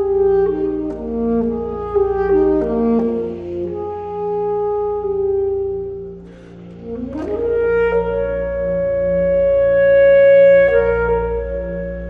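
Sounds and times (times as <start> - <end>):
low electronic drone: 0.0 - 12.0
saxophone long notes: 0.0 - 12.0.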